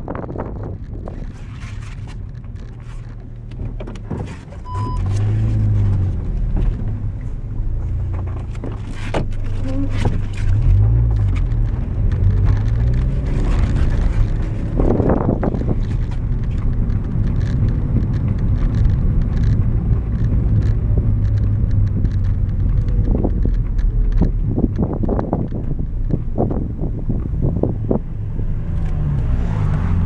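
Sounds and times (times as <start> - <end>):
car engine drone: 0.0 - 30.0
wind and tyre noise: 0.0 - 30.0.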